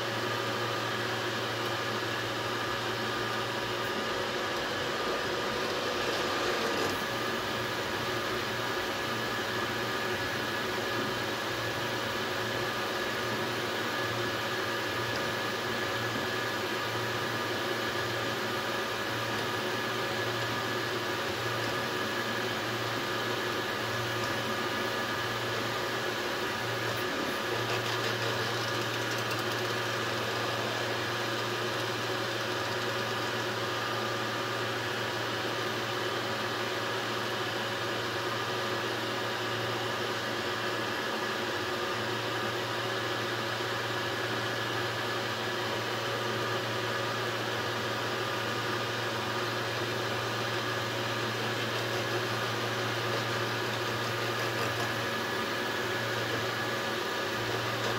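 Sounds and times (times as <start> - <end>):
three d printer humming and whining: 0.0 - 57.9.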